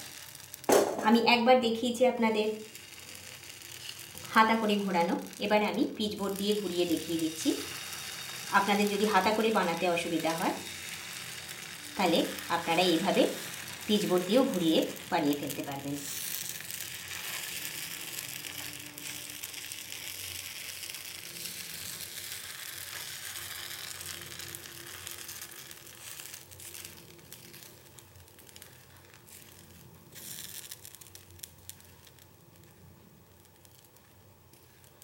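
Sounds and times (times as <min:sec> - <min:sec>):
batter sizzling on a griddle: 0:00.0 - 0:35.0.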